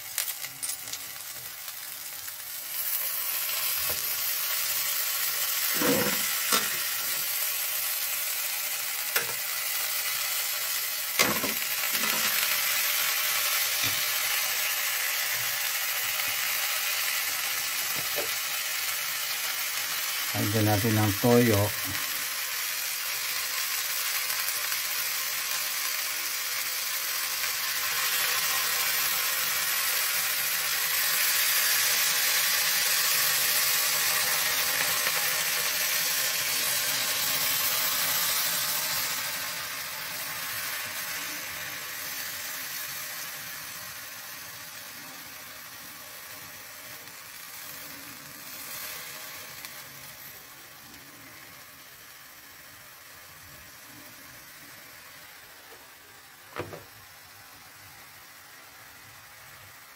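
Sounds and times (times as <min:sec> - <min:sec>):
chicken sizzling in a pan: 0:00.0 - 0:59.9.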